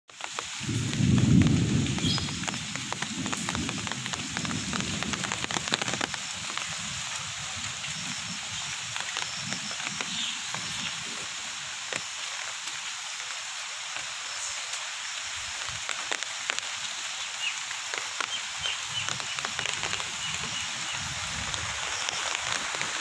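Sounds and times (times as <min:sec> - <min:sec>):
rain falling: 0:00.1 - 0:23.0.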